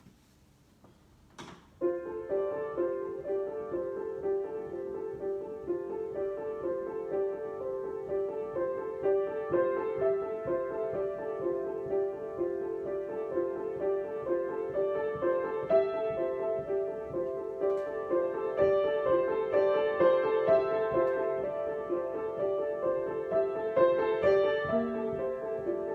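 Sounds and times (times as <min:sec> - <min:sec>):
solo piano repeating pattern: 0:01.8 - 0:25.9.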